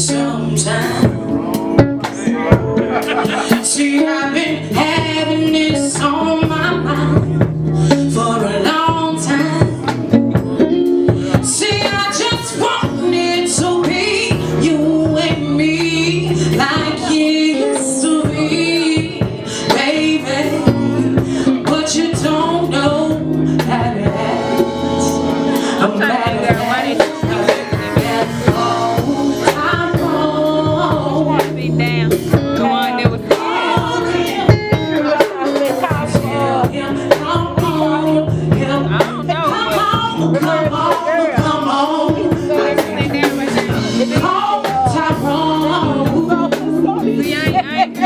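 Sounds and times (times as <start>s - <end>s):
people singing: 0.0s - 10.1s, 11.3s - 31.8s, 32.6s - 48.0s
bass guitar: 0.0s - 48.0s
keyboard: 0.0s - 48.0s
drum beat: 0.6s - 25.2s, 25.8s - 48.0s.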